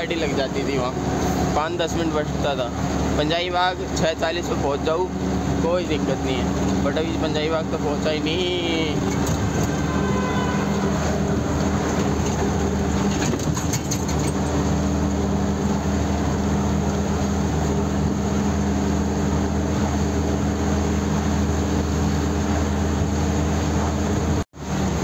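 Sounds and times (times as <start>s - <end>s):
road noise in cab: 0.0s - 25.0s
truck engine running: 0.0s - 25.0s.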